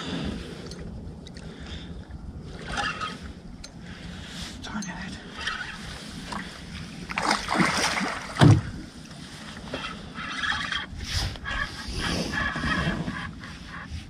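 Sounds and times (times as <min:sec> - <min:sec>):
water sloshing against boat hull: 0:00.1 - 0:14.0.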